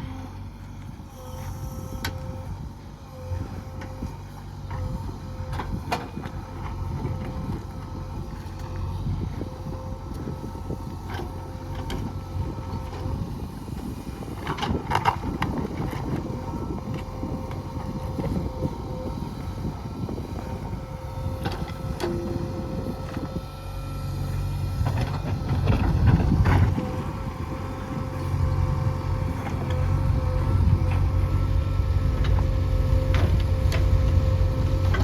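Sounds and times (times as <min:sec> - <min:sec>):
heavy diesel engine under load: 0:00.0 - 0:35.0.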